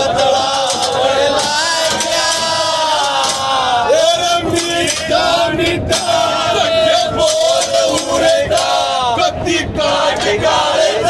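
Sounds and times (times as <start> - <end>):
men singing in chorus: 0.0 - 11.0.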